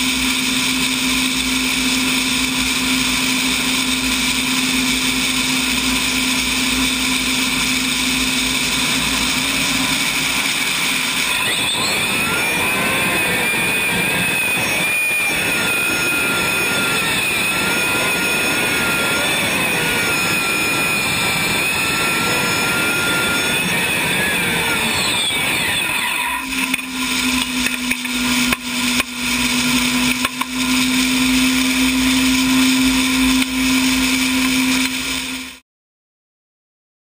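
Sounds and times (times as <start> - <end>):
turboshaft engine roaring: 0.0 - 35.6.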